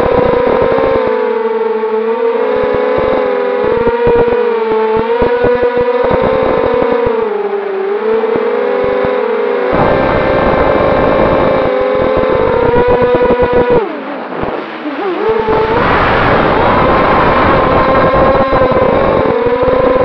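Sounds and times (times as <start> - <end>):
wind rattling on microphone: 0.0 - 1.2, 2.6 - 7.5, 8.1 - 20.0
quadcopter motors whining: 0.0 - 20.0.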